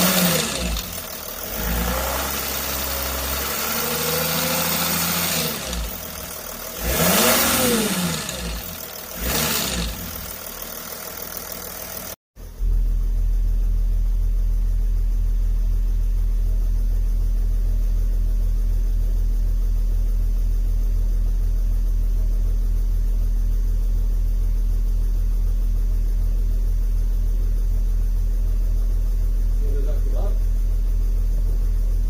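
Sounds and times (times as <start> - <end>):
diesel engine idling: 0.0 - 32.0
engine rattle: 0.0 - 32.0.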